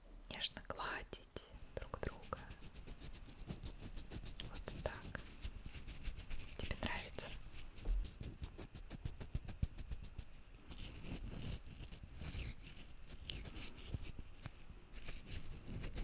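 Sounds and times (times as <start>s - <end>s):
soft rubbing: 1.7s - 16.0s
fingers scratching close to microphone: 2.1s - 16.0s.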